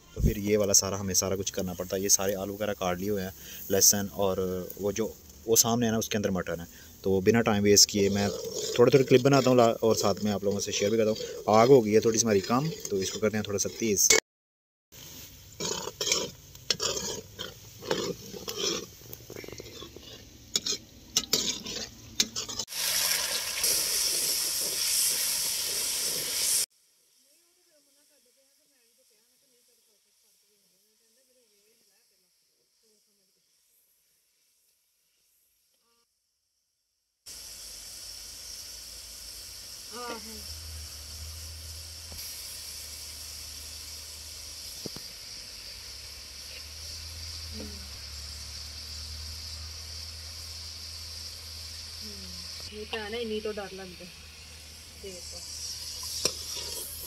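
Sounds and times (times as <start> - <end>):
onions sizzling in oil: 0.0 - 14.1, 15.0 - 57.0.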